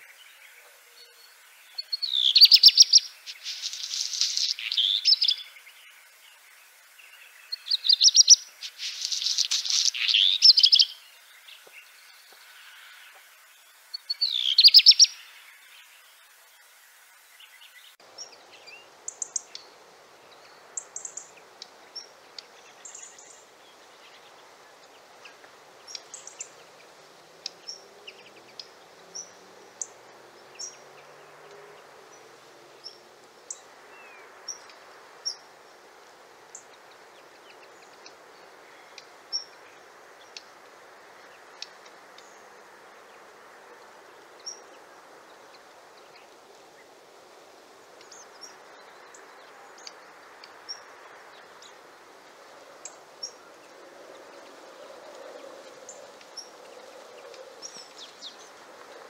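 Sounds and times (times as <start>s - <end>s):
background hiss: 0.0s - 59.0s.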